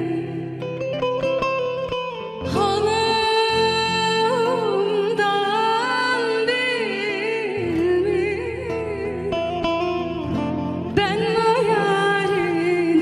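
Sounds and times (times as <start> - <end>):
plucked long-necked lute: 0.0 - 13.0
woman singing folk song: 0.0 - 13.0.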